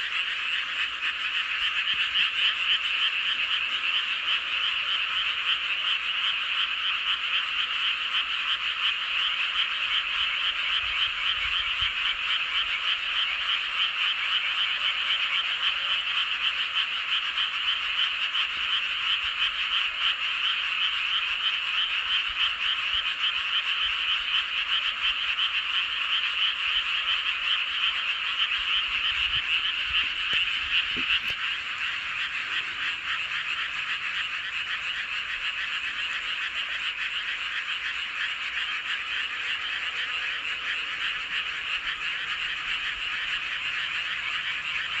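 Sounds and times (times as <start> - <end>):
frogs croaking chorus: 0.0 - 45.0.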